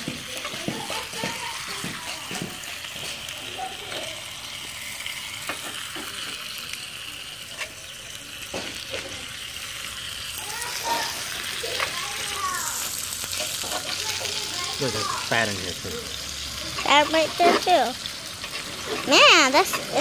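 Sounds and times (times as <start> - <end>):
steak sizzling in a skillet: 0.0 - 20.0.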